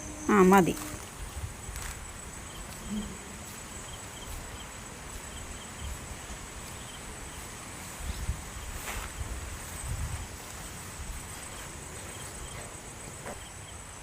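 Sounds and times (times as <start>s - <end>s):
high insect trill: 0.0s - 14.0s.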